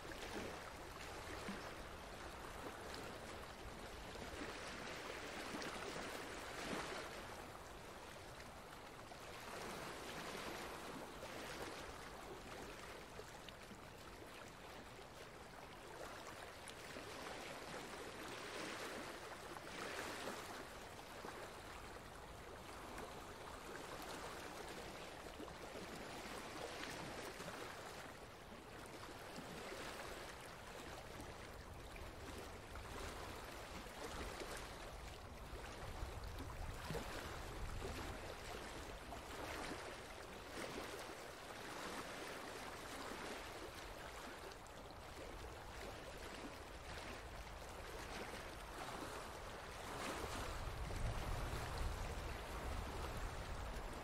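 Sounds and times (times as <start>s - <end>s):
running water stream: 0.0s - 54.0s.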